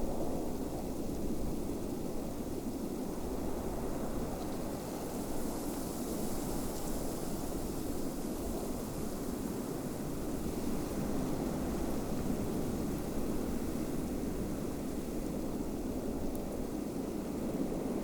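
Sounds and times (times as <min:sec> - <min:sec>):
snowstorm wind blowing: 0:00.0 - 0:18.0.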